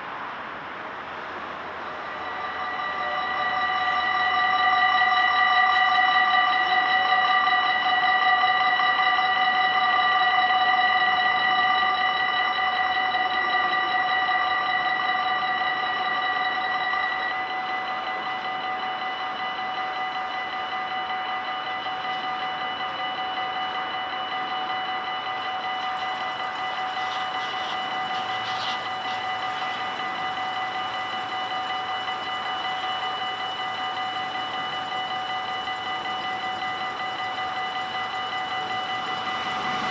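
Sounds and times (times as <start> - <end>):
level crossing warning bells: 0.0 - 39.9.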